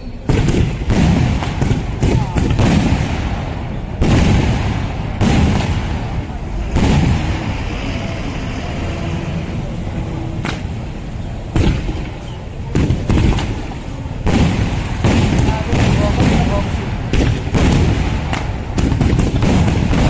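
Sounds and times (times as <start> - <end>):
fireworks bangs with rumble: 0.2 - 20.0.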